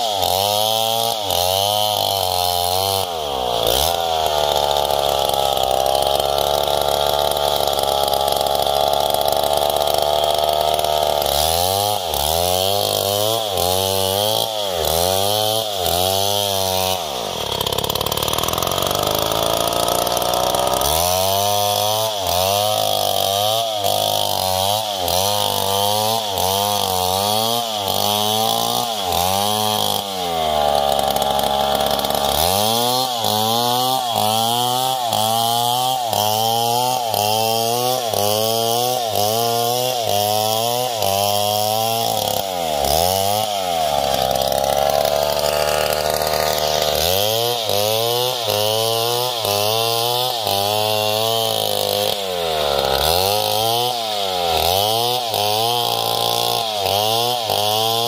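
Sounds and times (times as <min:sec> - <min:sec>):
chainsaw ripping log: 0:00.0 - 0:58.0.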